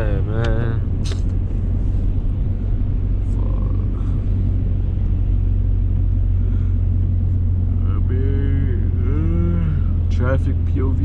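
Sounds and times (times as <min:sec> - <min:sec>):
car engine rumble: 0:00.0 - 0:11.0
tyres on wet road: 0:00.0 - 0:11.0.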